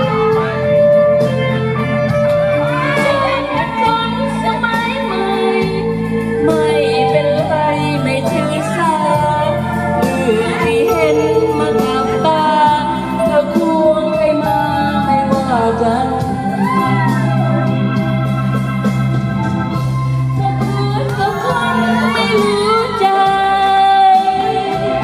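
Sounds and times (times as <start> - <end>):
amplified backing music: 0.0 - 25.0
woman singing into a microphone: 2.6 - 18.2, 20.3 - 25.0.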